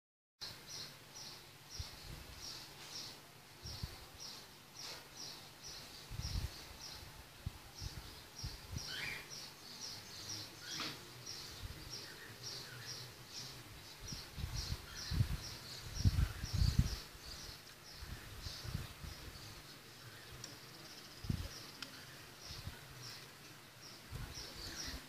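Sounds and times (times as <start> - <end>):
small bird chirping: 0.4 - 25.0.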